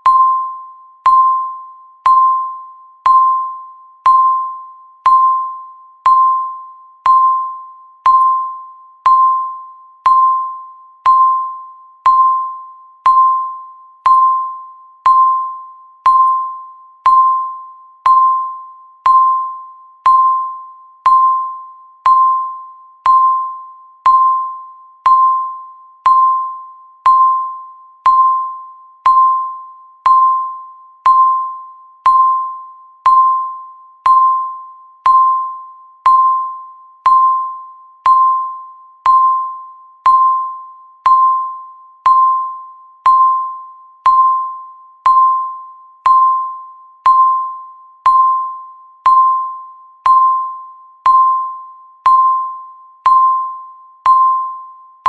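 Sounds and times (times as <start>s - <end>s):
timer ticking electronic ding: 0.0s - 55.0s.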